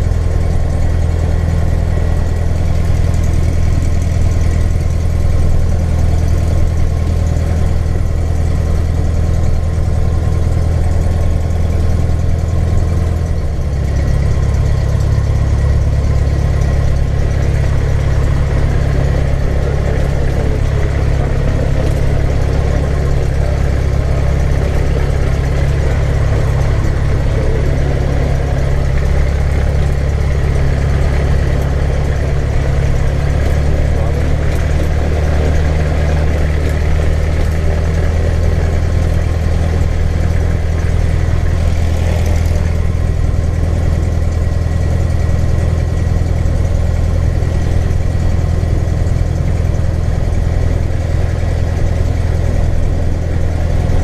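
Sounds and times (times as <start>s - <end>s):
small plane engine and propeller: 0.0s - 54.0s.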